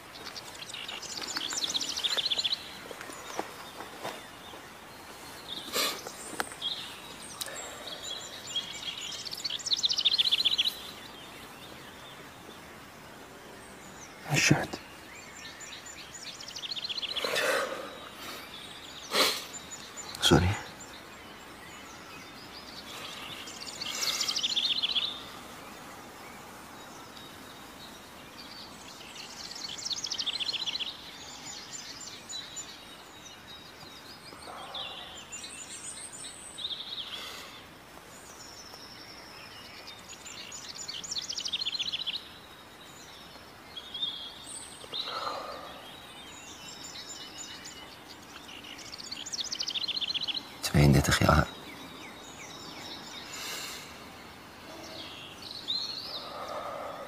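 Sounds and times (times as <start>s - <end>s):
background hiss: 0.0s - 57.0s
songbirds trilling and chirping: 0.0s - 57.0s.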